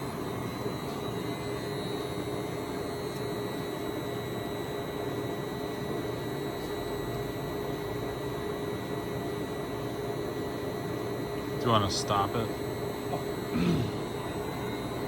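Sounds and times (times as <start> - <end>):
engine lathe humming with whine: 0.0 - 15.0.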